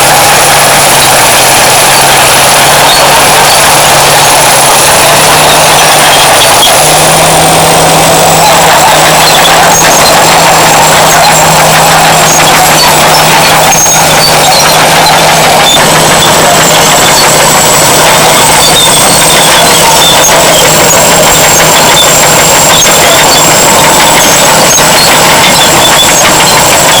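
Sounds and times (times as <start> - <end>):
bulldozer diesel engine running: 0.0 - 27.0
turbocharger whistle: 0.0 - 27.0.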